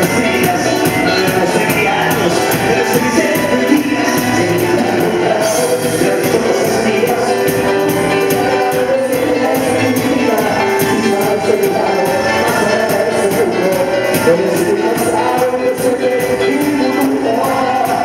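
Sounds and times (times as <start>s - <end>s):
band playing: 0.0s - 18.0s
congas: 0.0s - 18.0s
men singing into microphones: 0.0s - 18.0s
steady percussion beat: 0.0s - 18.0s.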